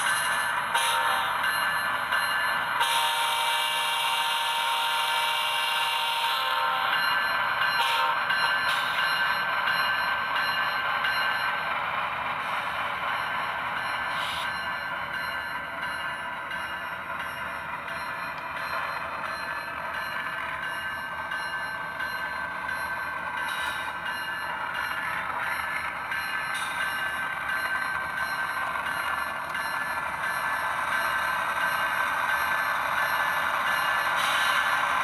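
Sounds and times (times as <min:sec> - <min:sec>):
model train diesel engine sound: 0:00.0 - 0:35.0.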